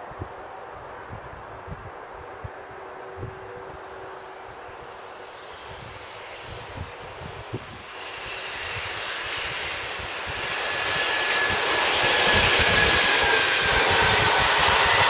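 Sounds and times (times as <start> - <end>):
freight train passing: 1.8 - 15.0.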